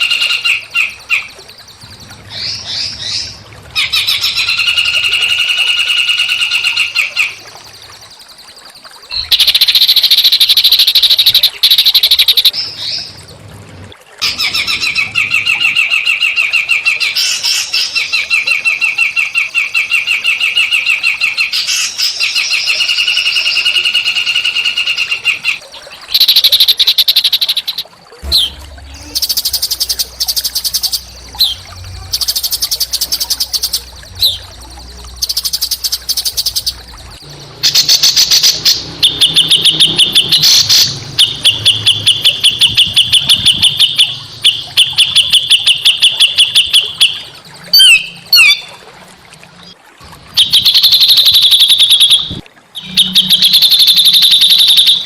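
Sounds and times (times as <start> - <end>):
bird whistled glides: 0.0 - 13.2, 14.2 - 48.8, 50.4 - 55.0
songbirds chattering trills: 0.0 - 13.5, 14.2 - 48.8.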